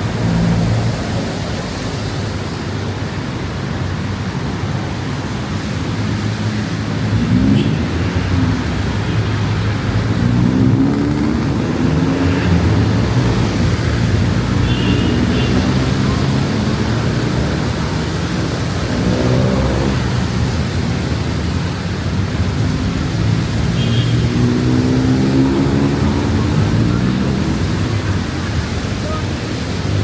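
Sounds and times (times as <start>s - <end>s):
traffic rushing hiss: 0.0s - 30.0s.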